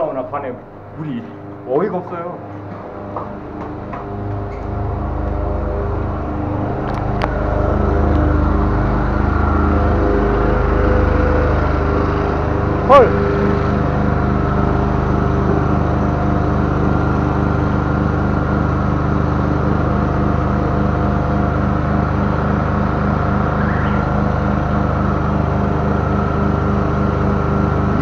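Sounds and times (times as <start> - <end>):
machine engine running: 0.0 - 28.0.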